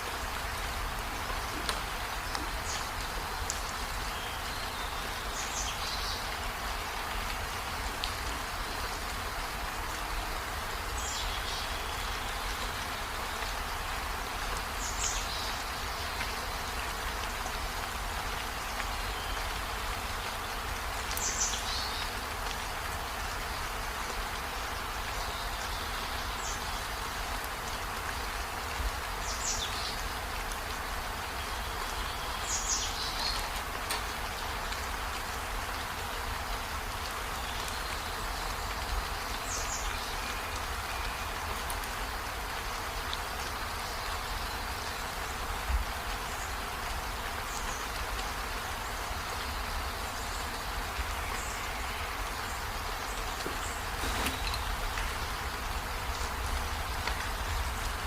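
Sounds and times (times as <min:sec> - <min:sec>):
steady rain-like hiss: 0:00.0 - 0:58.0.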